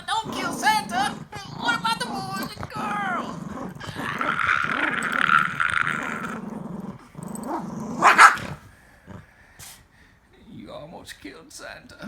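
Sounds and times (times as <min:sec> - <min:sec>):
dog growling: 0:00.0 - 0:09.8.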